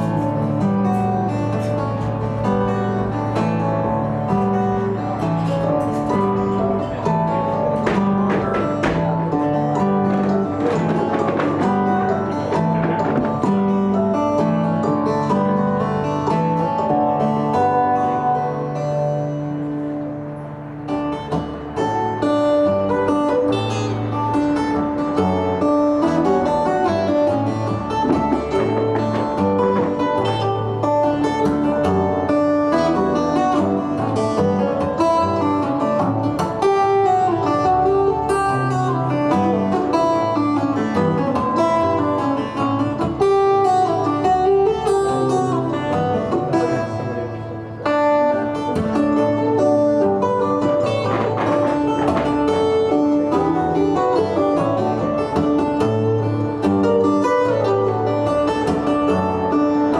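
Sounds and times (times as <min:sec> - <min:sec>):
acoustic guitar playing: 0:00.0 - 0:59.9.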